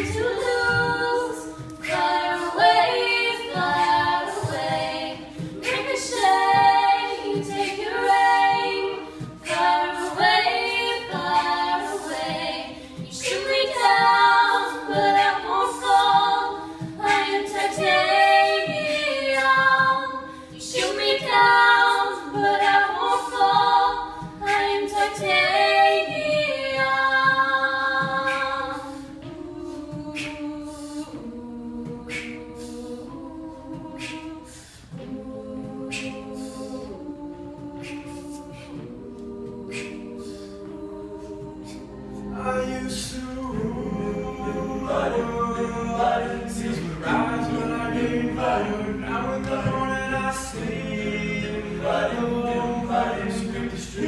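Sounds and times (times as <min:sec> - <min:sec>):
a cappella group singing: 0:00.0 - 0:54.0.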